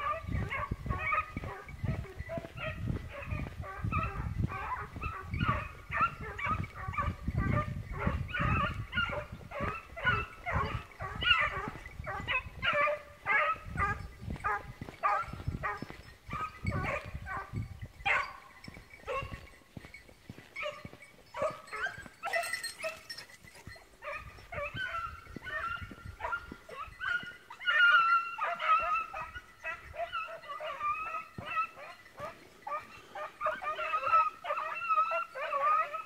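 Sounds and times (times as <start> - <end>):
hounds baying: 0.0 - 36.0.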